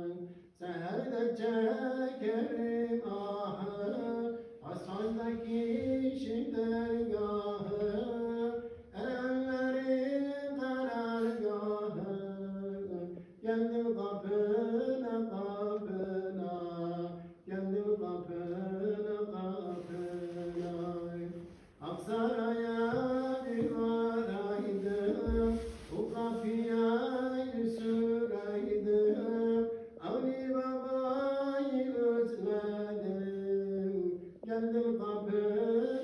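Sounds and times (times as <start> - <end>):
men singing a hymn with echo: 0.0 - 36.0.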